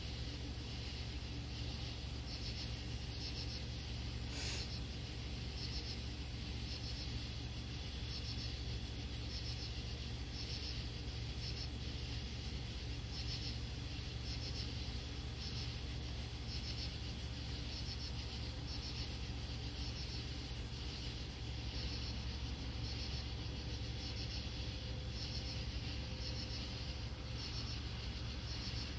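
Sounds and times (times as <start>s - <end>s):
insects chirping: 0.0s - 28.9s
steady low hum: 0.0s - 28.9s.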